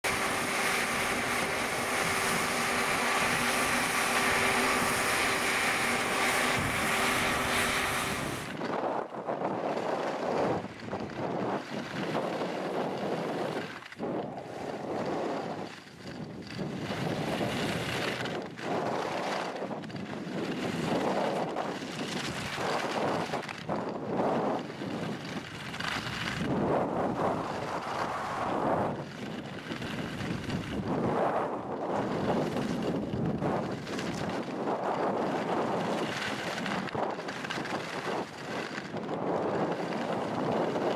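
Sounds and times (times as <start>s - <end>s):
skis scraping over packed snow: 0.0s - 40.9s
wind buffeting microphone: 0.0s - 40.9s.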